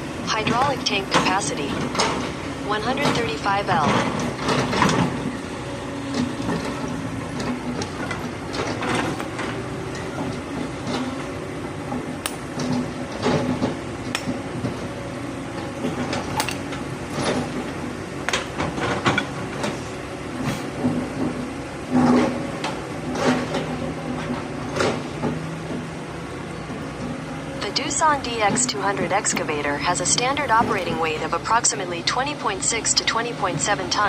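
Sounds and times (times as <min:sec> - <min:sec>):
excavator engine drone: 0:00.0 - 0:34.0.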